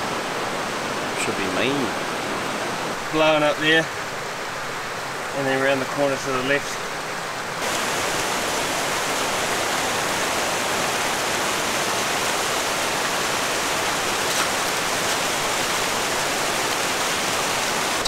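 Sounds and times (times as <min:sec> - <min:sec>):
river rushing over boulders: 0:00.0 - 0:18.0.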